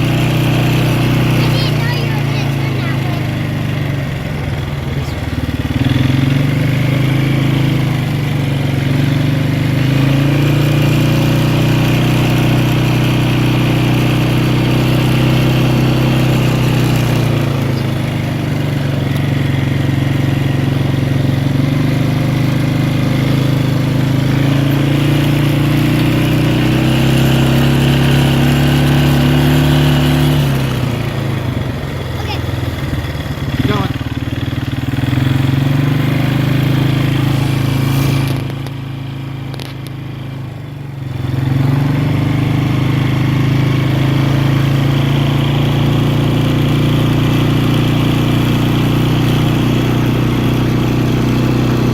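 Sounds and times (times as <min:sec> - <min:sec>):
atv engine running: 0:00.0 - 0:51.9.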